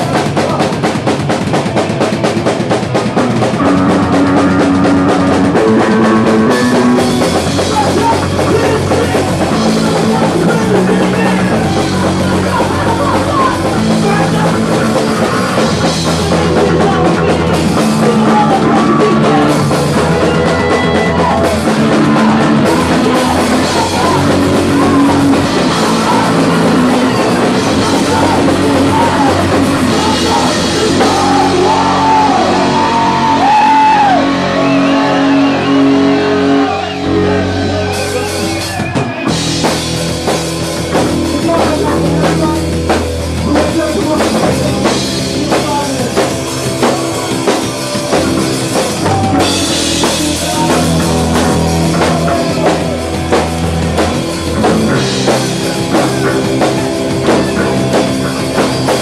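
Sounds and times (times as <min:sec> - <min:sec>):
driving drum beat: 0:00.0 - 0:59.0
punk rock band playing live: 0:00.0 - 0:59.0.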